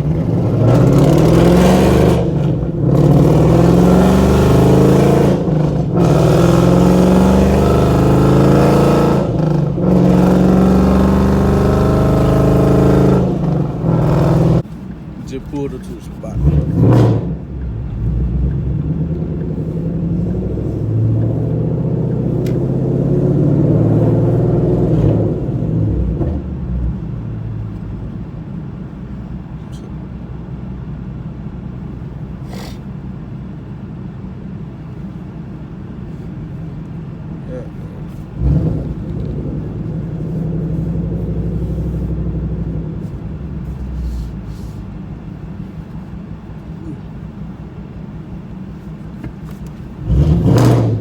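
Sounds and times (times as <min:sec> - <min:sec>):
car exhaust rumbling: 0:00.0 - 0:51.0.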